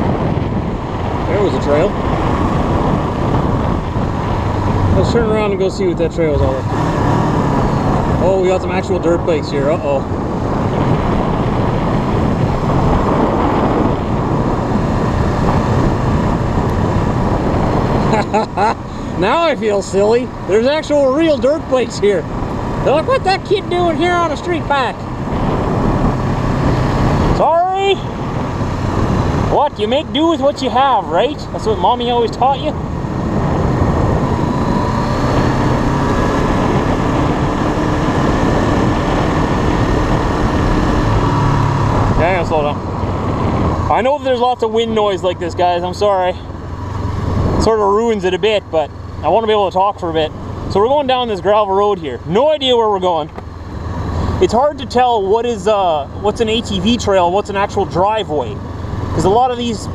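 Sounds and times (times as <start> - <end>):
motorcycle engine drone: 0.0 - 59.9
wind buffeting microphone: 0.0 - 59.9.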